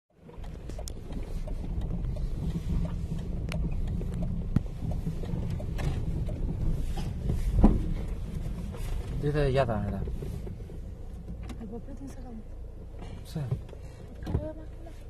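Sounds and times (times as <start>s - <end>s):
vehicle rumble: 0.1s - 15.0s.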